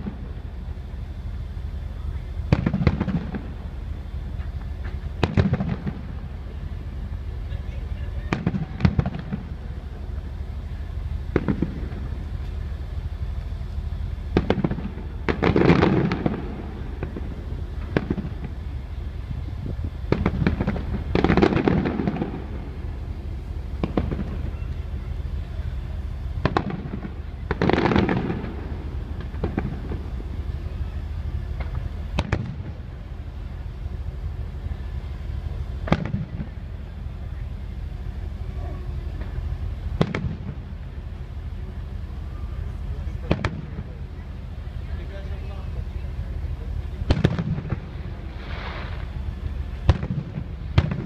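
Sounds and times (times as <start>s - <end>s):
fireworks bursting with sharp bangs: 0.0s - 51.0s
low rumble: 0.0s - 51.0s.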